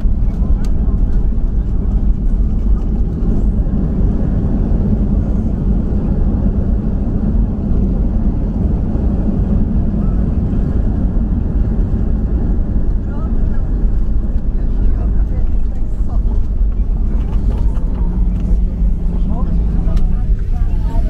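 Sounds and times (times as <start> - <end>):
low rumble inside aircraft cabin: 0.0 - 21.0.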